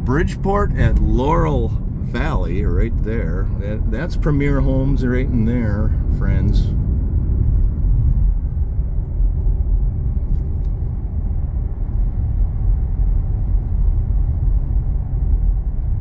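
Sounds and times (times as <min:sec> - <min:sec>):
car driving interior rumble: 0:00.0 - 0:16.0.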